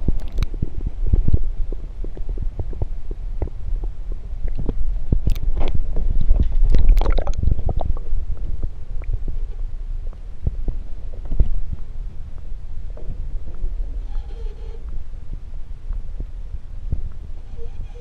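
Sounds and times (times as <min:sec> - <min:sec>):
muffled underwater rumbling and sloshing: 0:00.0 - 0:18.0.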